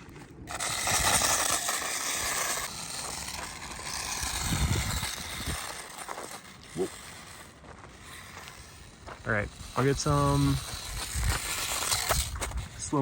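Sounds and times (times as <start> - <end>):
tires on gravel: 0.0 - 13.0
toy truck motor whining: 0.5 - 13.0.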